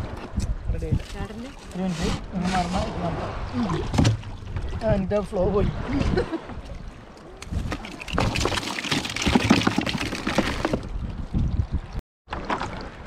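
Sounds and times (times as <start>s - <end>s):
water sloshing in cooler: 0.1s - 5.1s, 5.8s - 11.7s.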